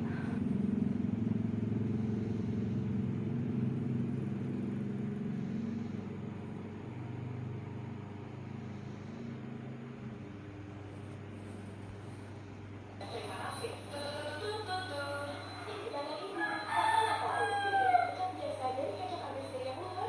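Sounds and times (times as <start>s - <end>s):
motor pulsing hum: 0.0s - 20.0s.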